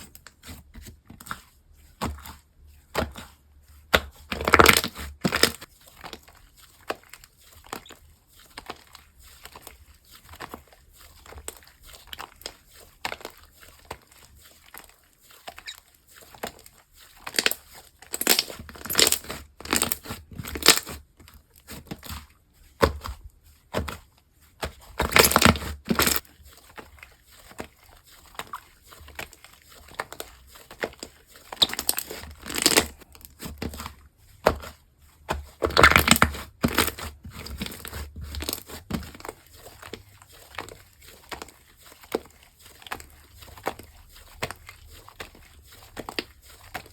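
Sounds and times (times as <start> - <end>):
slime squishing and crackling: 2.9 - 24.0, 24.6 - 46.9.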